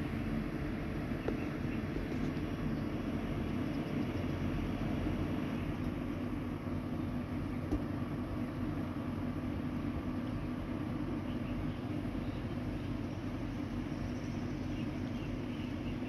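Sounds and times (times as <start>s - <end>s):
faint steady hum: 0.0s - 16.0s
low outdoor rumble: 0.0s - 16.0s.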